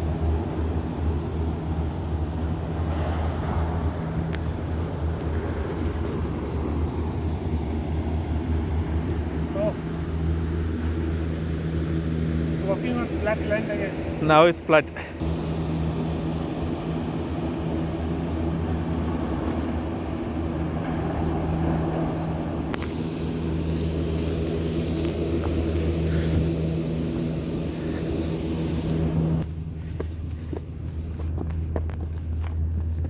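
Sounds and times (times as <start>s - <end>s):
engine hum: 0.0s - 33.0s.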